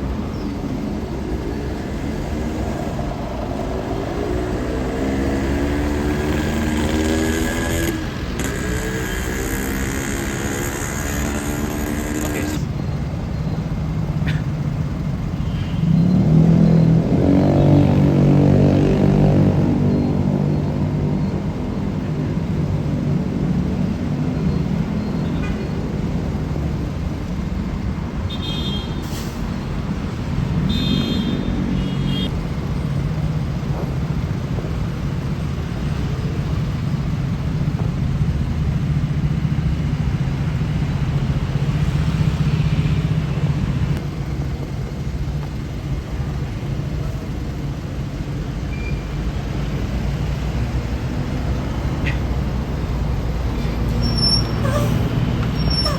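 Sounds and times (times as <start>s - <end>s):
heavy vehicle engines: 0.0s - 55.9s.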